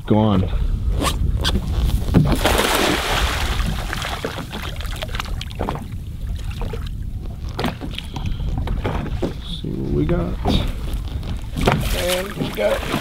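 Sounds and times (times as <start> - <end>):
wind rumble on microphone: 0.0 - 13.0
water splashing against inflatable boat: 2.1 - 13.0.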